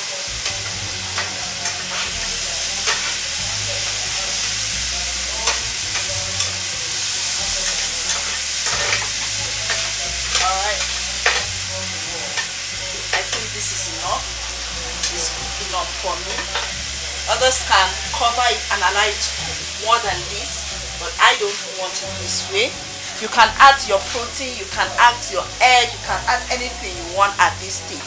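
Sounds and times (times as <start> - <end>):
vegetables sizzling in a frying pan: 0.0 - 28.0
spatula scraping a pan: 0.2 - 26.6.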